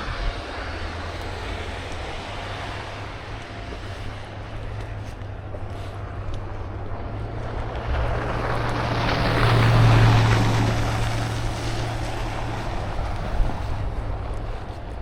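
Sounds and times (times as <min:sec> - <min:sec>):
steady low rumble: 0:00.0 - 0:15.0
vehicle passing on slushy street: 0:00.0 - 0:15.0.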